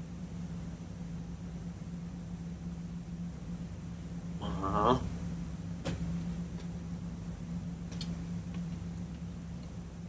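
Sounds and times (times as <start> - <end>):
low cabin hum: 0.0 - 10.0.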